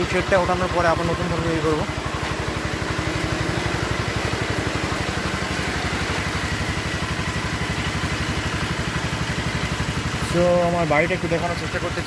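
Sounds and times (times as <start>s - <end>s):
generator engine thumping: 0.0s - 12.0s.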